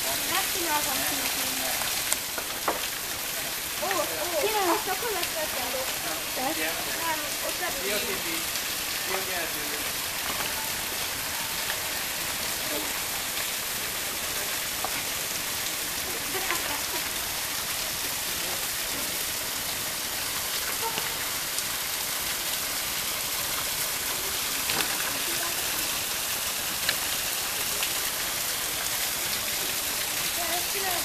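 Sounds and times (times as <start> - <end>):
water drips: 0.0 - 31.0
waterfall splashing on rocks: 0.0 - 31.0.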